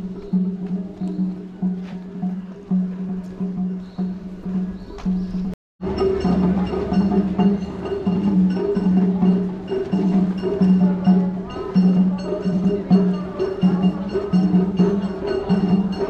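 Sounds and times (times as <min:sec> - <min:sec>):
drums in quick rolls: 0:00.0 - 0:16.0.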